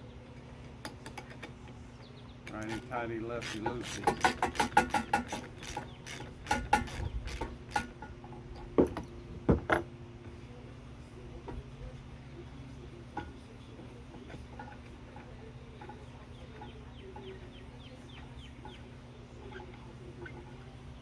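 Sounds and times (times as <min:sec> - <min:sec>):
birds calling: 0:00.0 - 0:09.5, 0:11.3 - 0:21.0
steady low hum: 0:00.0 - 0:21.0.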